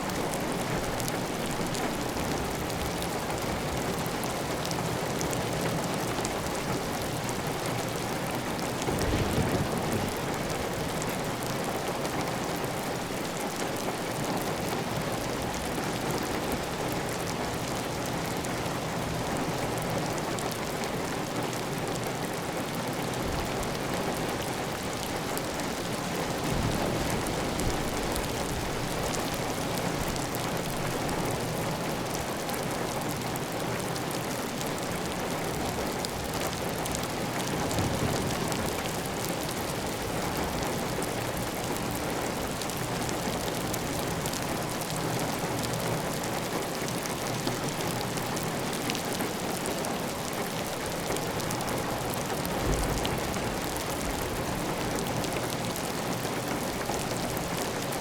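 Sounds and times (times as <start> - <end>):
heavy rain on a tile roof: 0.0 - 58.0.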